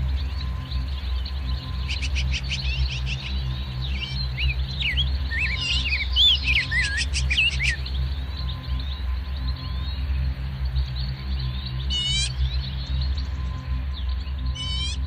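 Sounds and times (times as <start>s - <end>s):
ambient music: 0.0s - 15.0s
songbirds chirping and trilling: 0.0s - 15.0s.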